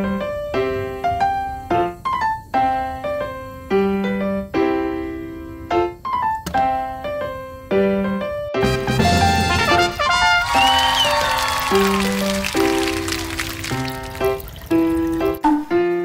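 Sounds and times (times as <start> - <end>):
piano playing light tune: 0.0 - 16.0.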